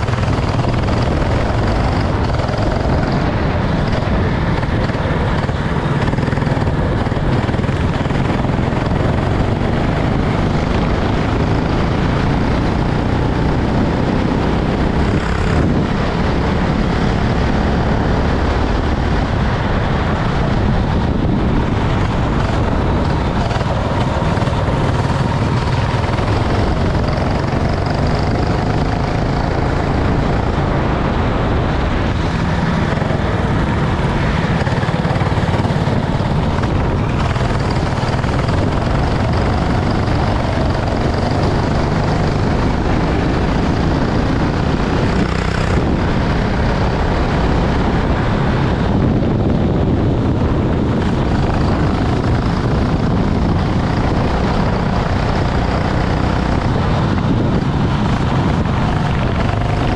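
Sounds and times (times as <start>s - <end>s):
faint engine whine: 0.0s - 59.9s
loud rushing noise: 0.0s - 59.9s
racing kart engine running: 0.0s - 59.9s.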